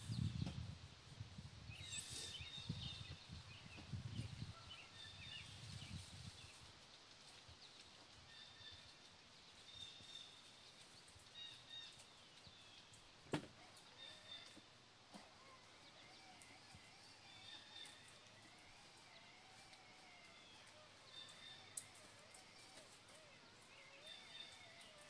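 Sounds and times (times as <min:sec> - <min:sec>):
faint birdsong chirps: 0:00.0 - 0:00.8, 0:01.6 - 0:25.0.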